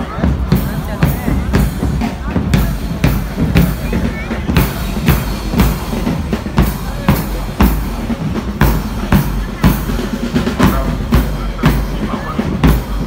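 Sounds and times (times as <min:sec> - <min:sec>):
drums beating: 0:00.0 - 0:13.0
marching band playing: 0:00.0 - 0:13.0.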